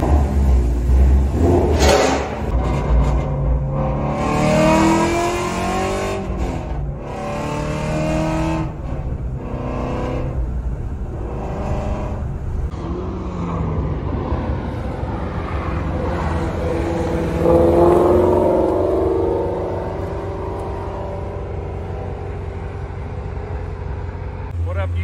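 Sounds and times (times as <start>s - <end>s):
car engine revving: 0.0s - 24.6s.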